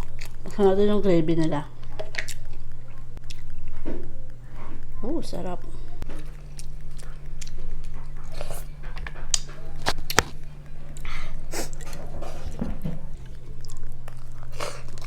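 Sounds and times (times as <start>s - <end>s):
wet chewing: 0.0s - 0.6s, 1.8s - 5.0s, 6.0s - 15.0s
low hum: 0.0s - 15.0s.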